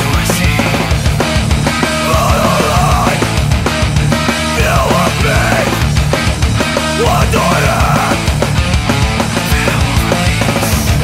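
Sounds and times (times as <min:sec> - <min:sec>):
electric guitars bending notes: 0:00.0 - 0:11.0
heavy rock band playing: 0:00.0 - 0:11.0.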